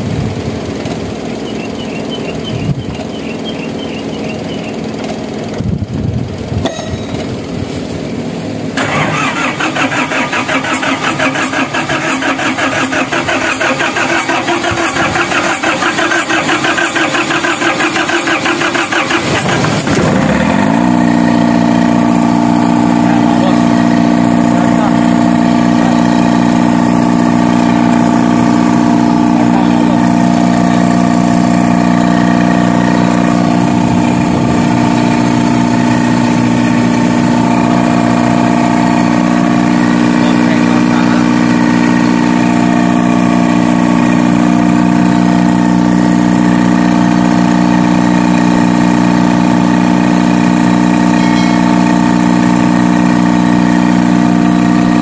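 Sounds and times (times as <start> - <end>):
diesel generator running: 0.0 - 55.0.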